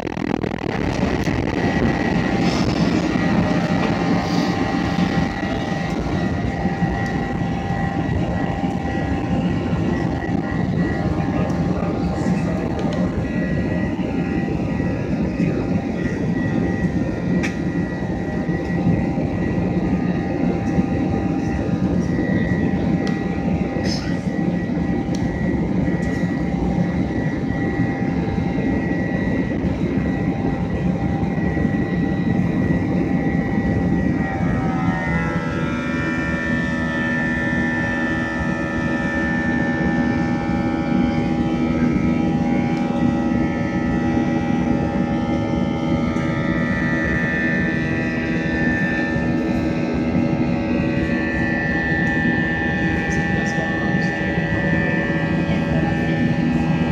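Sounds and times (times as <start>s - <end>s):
jet engines in cabin: 0.0s - 56.9s.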